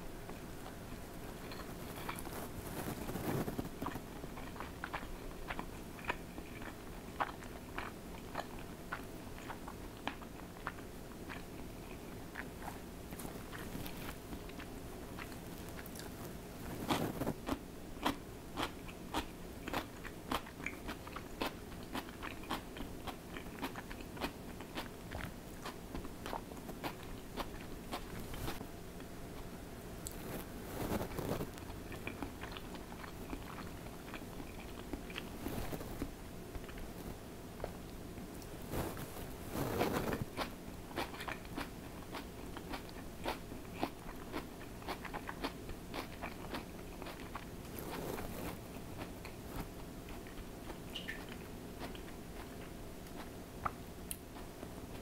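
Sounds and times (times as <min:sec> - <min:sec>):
faint steady hum: 0:00.0 - 0:55.0
crisp food crunching: 0:00.3 - 0:29.1, 0:30.0 - 0:55.0.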